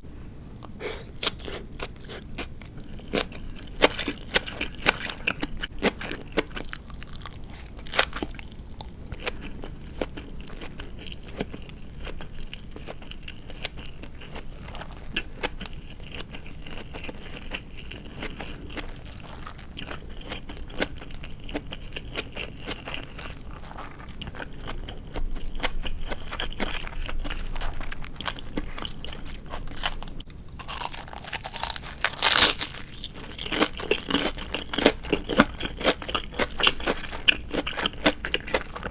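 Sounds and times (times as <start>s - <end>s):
crunchy chewing of fried chicken: 0.5s - 38.9s.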